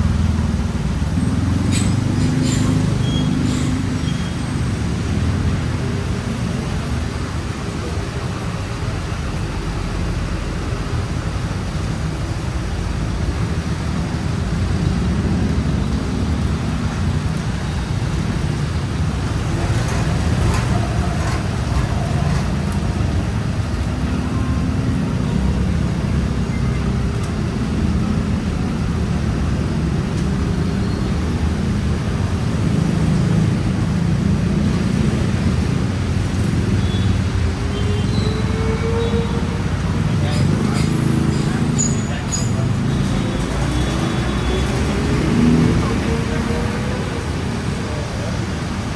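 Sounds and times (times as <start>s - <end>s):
passing cars rumble: 0.0s - 48.9s.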